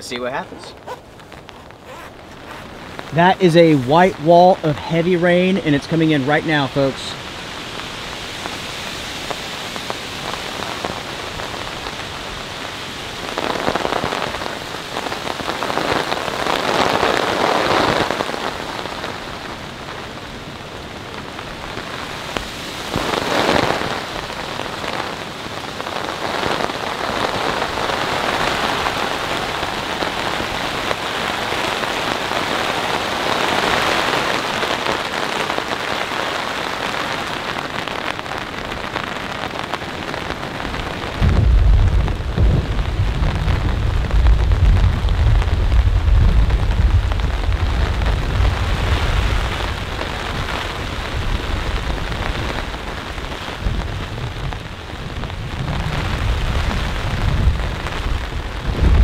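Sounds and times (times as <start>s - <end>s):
heavy rain on a tarp: 0.0s - 59.0s
wind gusts: 0.0s - 59.0s.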